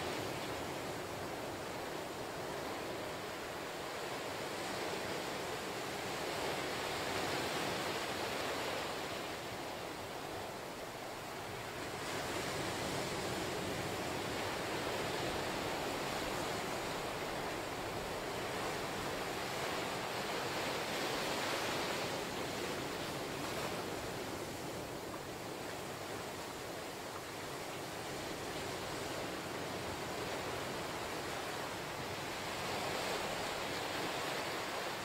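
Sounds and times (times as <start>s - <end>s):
small waves washing on beach: 0.0s - 35.0s.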